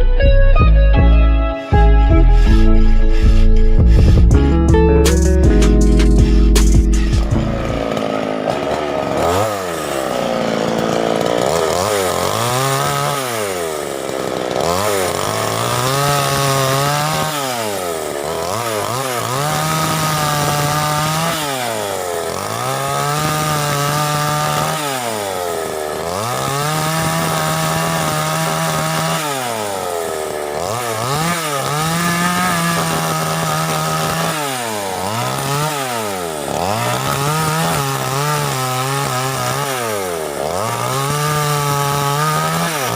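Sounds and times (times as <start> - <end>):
chainsaw engine revving: 1.6 - 42.9.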